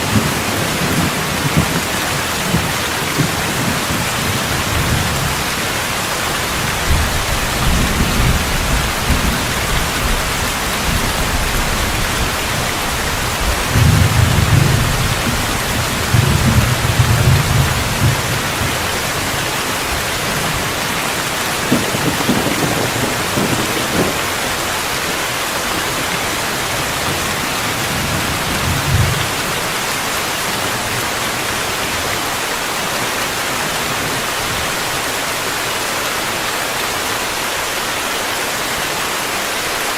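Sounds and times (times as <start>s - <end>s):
thunder rumbling: 0.0s - 32.2s
steady rainfall: 0.0s - 39.9s.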